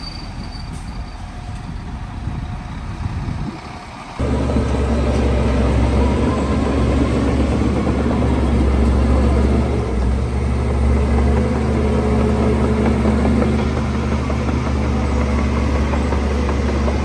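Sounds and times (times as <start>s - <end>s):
heavy diesel engine running: 1.4s - 17.0s.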